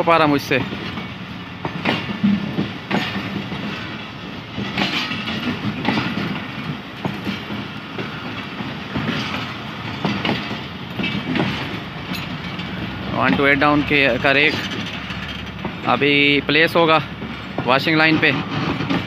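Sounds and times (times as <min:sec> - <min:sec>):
train coaches rumbling past: 0:00.0 - 0:19.0
wheel clacks over rail joints: 0:00.0 - 0:19.0.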